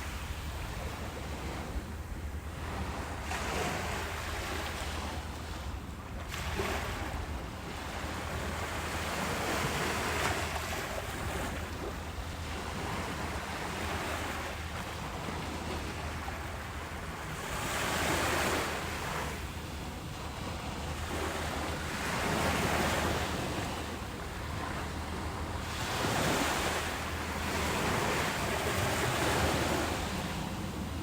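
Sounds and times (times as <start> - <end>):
low rumble of wind: 0.0 - 31.0
ocean waves washing onto beach: 0.0 - 31.0.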